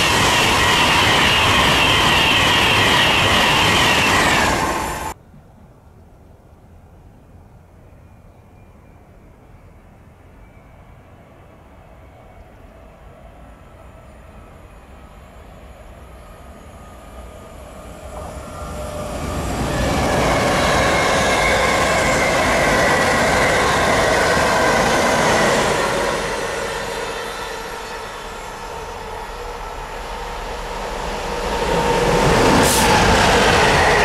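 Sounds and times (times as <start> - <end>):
train passing: 0.0 - 5.2, 9.4 - 34.0.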